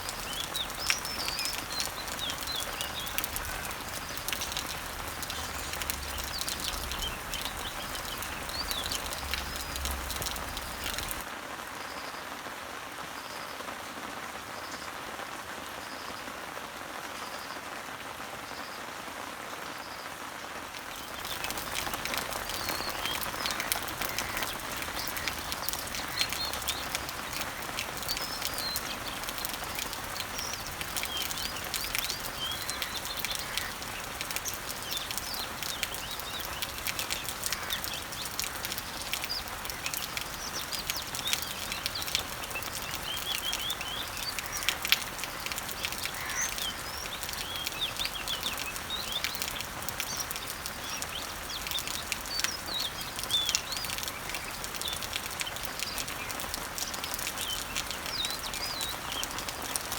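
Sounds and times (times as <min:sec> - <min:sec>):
songbirds chirping: 0:00.0 - 0:12.5, 0:18.4 - 0:59.9
rain on leaves and trees: 0:00.0 - 0:59.9.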